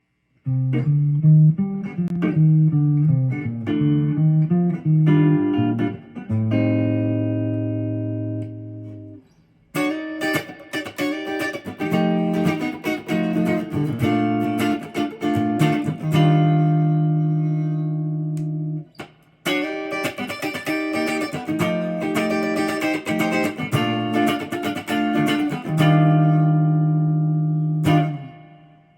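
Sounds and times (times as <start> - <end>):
electric guitar playing: 0.4 - 28.9.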